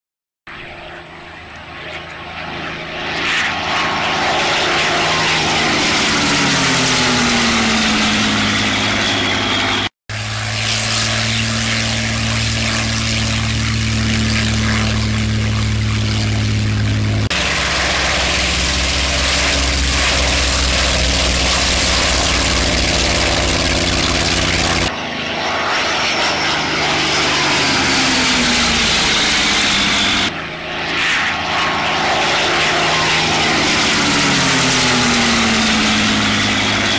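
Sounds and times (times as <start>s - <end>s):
plane engine idling on ground: 0.5s - 36.9s
propeller plane passing by: 0.5s - 36.9s.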